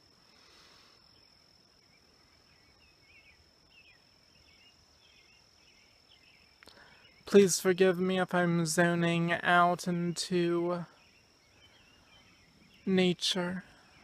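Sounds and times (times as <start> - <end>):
high insect trill: 0.0 - 14.0
soft bird chirps: 0.4 - 7.5, 9.8 - 14.0.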